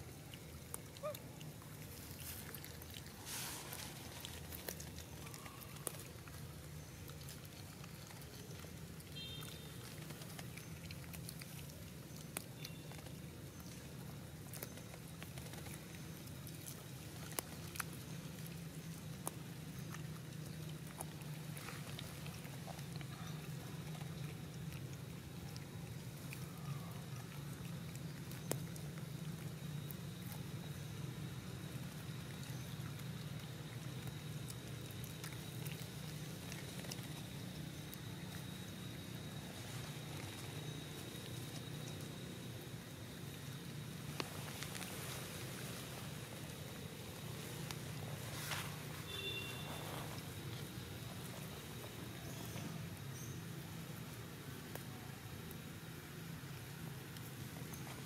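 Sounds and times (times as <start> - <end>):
crackling dry grass and leaves: 0.0 - 58.0
low steady hum: 0.0 - 58.0
monkeys feeding clicks and rustles: 0.0 - 58.0.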